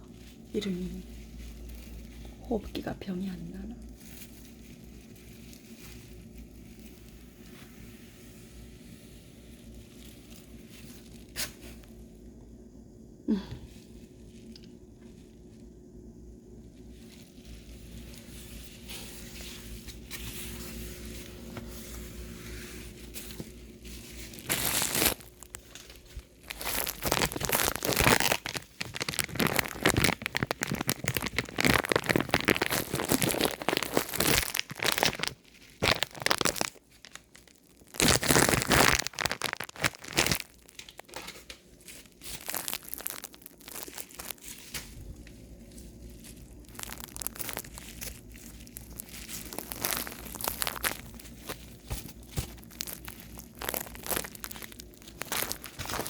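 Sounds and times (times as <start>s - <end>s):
crinkly material rustling: 0.0s - 12.5s, 13.3s - 15.8s, 16.4s - 56.0s
low steady hum: 0.0s - 56.0s.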